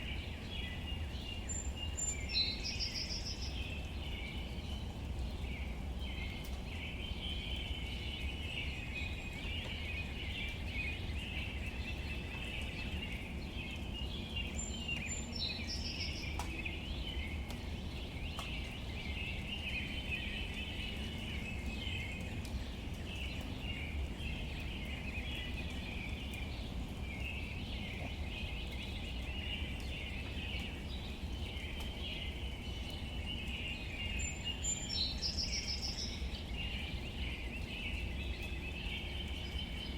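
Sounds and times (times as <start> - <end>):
chatter of small bird calls: 0.0 - 39.9.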